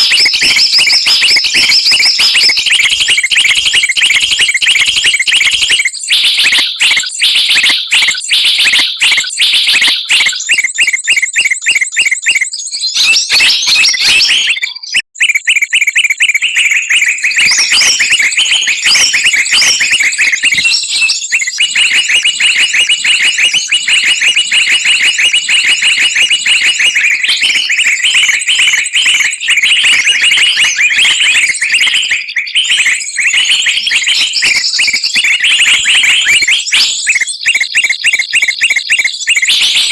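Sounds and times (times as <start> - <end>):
songbirds chirping shrilly: 0.0 - 39.9.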